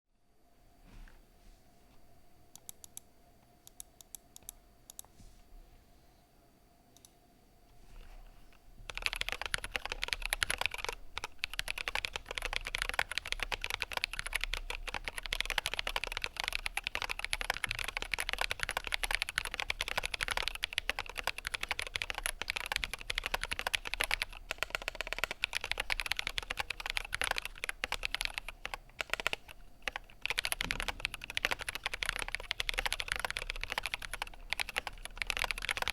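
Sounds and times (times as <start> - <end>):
mechanical keyboard typing: 2.6 - 3.0, 3.6 - 5.1, 8.9 - 35.9.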